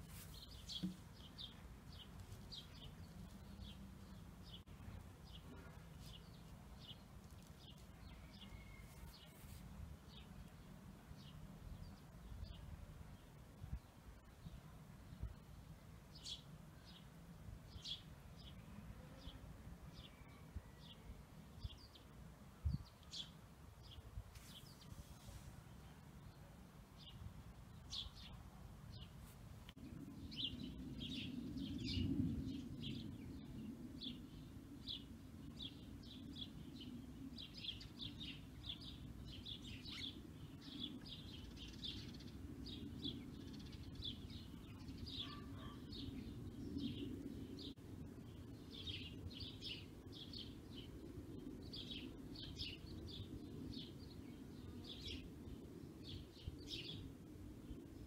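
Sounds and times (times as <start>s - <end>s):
small birds chirping: 0.0s - 17.1s, 21.6s - 58.0s.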